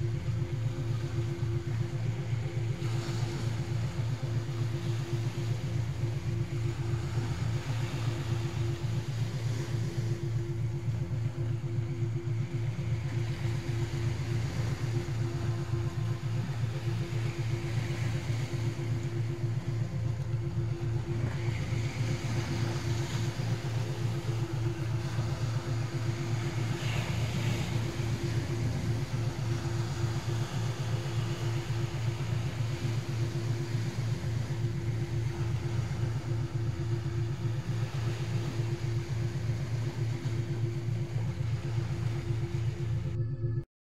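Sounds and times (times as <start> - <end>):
low pulsing synthetic drone: 0.0 - 43.7
steady hum: 0.0 - 43.7.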